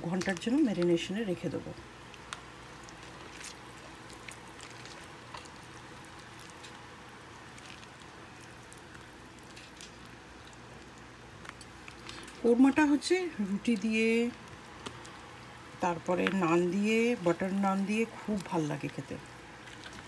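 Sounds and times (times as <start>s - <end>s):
wet squishing of marinade: 0.0s - 20.0s.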